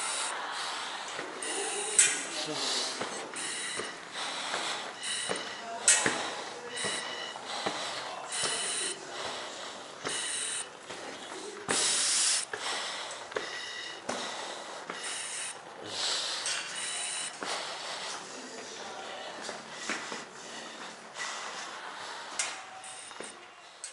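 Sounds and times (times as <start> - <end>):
hard breathing through mask valves: 0.0 - 23.9.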